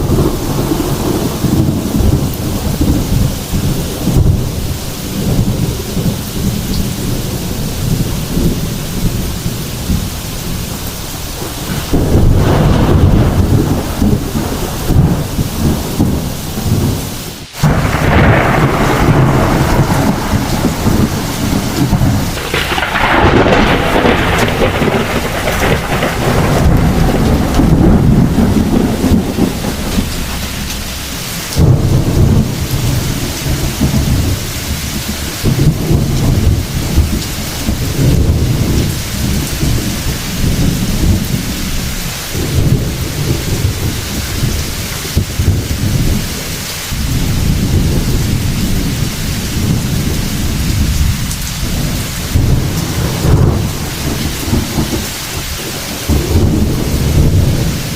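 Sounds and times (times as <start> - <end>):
heavy rain falling: 0.0 - 57.9
rolling thunder: 0.0 - 57.9.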